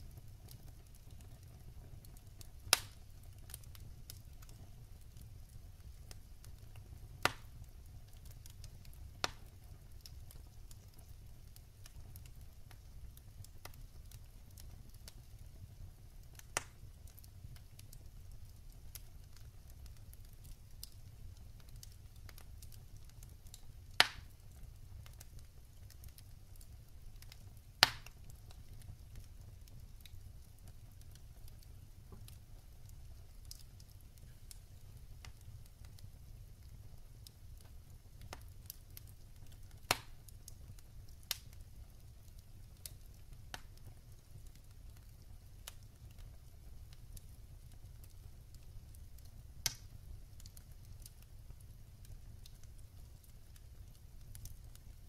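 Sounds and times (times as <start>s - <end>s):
logs crackling in a fireplace: 0.0s - 55.0s
low fire rumble: 0.0s - 55.0s.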